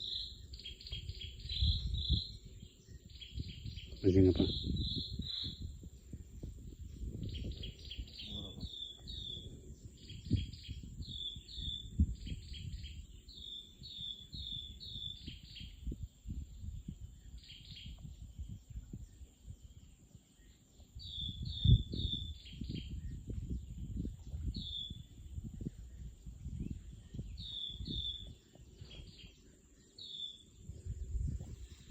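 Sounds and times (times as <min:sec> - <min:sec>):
bird chirping: 0:00.0 - 0:31.9.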